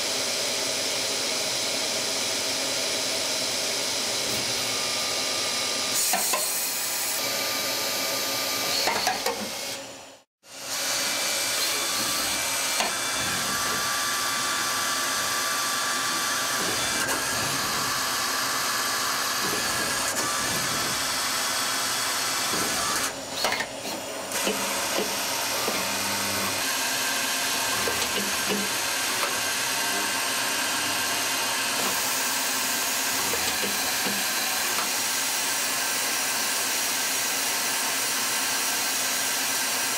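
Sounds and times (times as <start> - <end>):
lathe whirring with high tones: 0.0 - 39.9.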